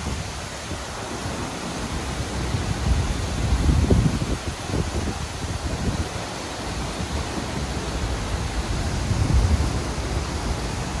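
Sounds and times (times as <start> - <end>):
waterfall rushing: 0.0 - 11.0
wind buffeting microphone: 0.0 - 11.0.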